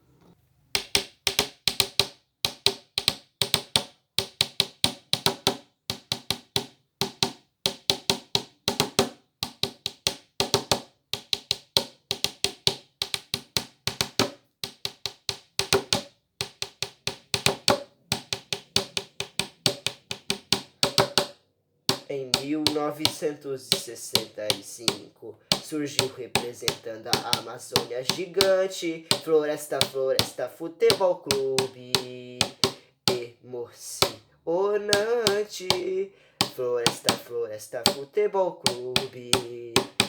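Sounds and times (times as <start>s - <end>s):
wooden taps in quick rhythm: 0.7s - 40.0s.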